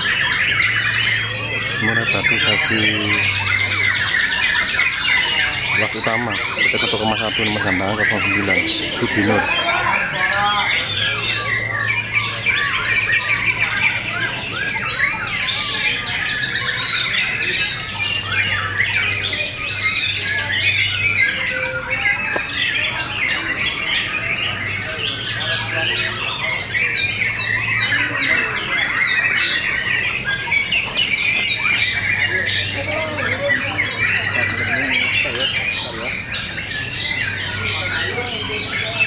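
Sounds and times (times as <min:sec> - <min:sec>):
birds singing: 0:00.0 - 0:39.0.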